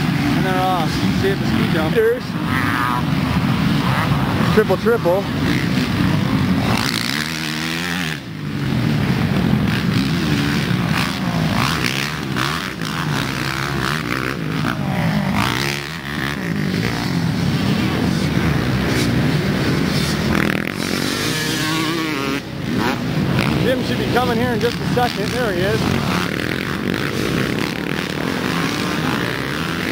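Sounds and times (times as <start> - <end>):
motocross bike engines revving: 0.0 - 29.9.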